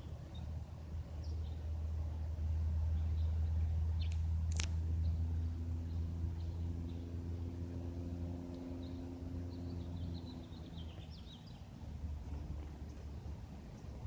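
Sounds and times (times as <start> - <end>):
propeller plane engine overhead: 0.0 - 14.0.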